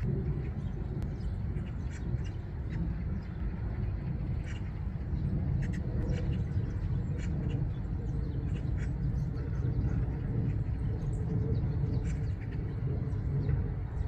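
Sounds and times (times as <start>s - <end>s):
sparrows chirping: 0.0s - 14.0s
steady low rumble: 0.0s - 14.0s.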